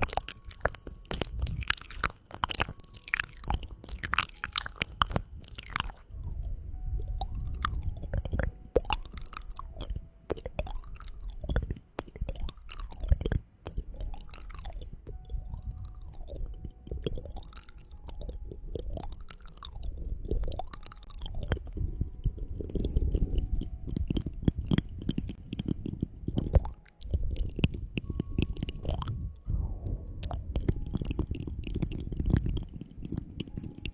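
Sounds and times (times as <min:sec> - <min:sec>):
wet clicks and crackles: 0:00.0 - 0:33.9
low microphone rumble: 0:04.9 - 0:33.9.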